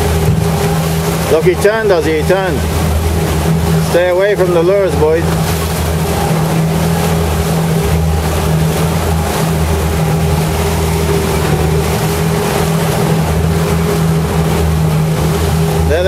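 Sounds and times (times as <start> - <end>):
motorboat engine humming: 0.0 - 16.0
water rushing: 0.0 - 16.0.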